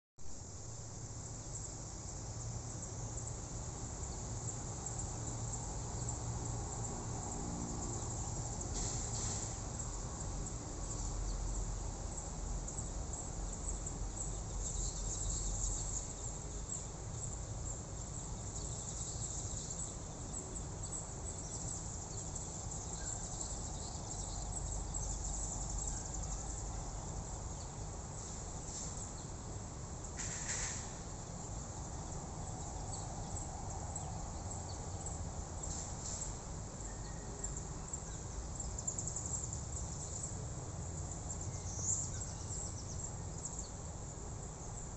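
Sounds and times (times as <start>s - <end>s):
insects trilling: 0.3s - 44.9s.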